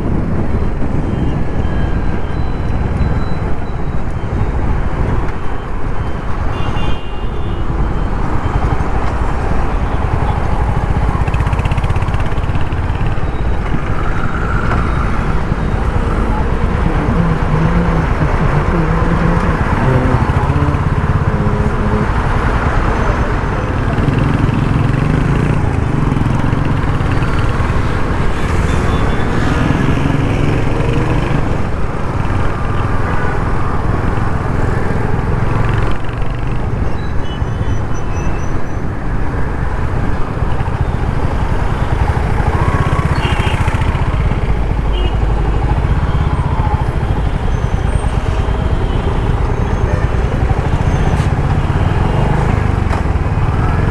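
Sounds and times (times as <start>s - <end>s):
motorcycle engine and exhaust: 7.9s - 37.6s, 39.4s - 53.9s.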